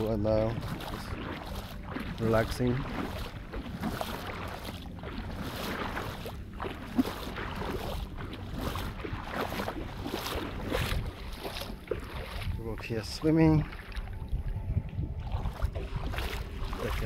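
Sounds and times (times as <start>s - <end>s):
seawater washing at shoreline: 0.0s - 17.0s
wind buffeting microphone: 0.0s - 17.0s.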